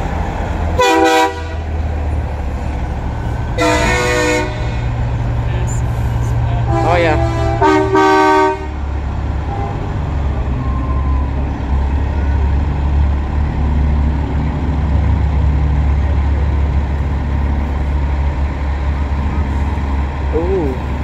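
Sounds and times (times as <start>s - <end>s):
diesel truck engines rumbling: 0.0s - 21.0s.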